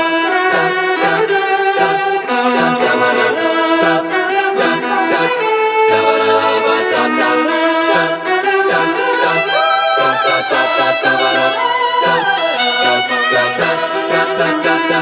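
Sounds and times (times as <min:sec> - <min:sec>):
a cappella voices: 0:00.0 - 0:15.0
violin melody: 0:00.0 - 0:15.0.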